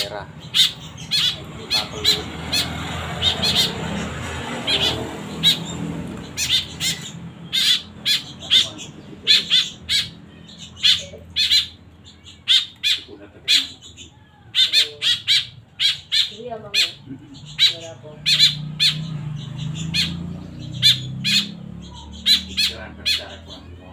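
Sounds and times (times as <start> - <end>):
fledgling birds begging calls: 0.0 - 23.9.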